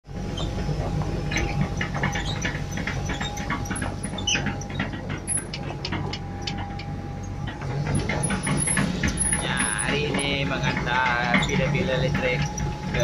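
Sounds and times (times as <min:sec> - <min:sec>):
excavator diesel engine whining: 0:00.0 - 0:13.0
metallic squeaks and clicks: 0:00.1 - 0:13.0.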